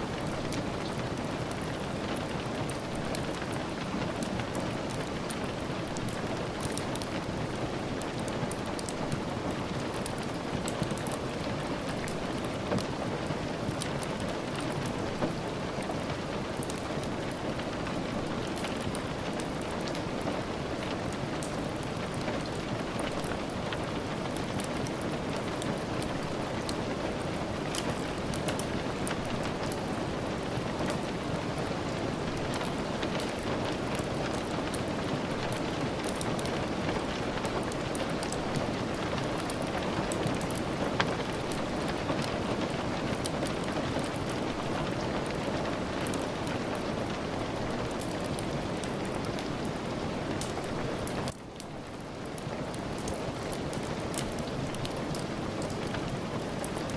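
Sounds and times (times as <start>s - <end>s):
steady rain hiss: 0.0s - 56.9s
wood fire crackling: 0.0s - 56.9s.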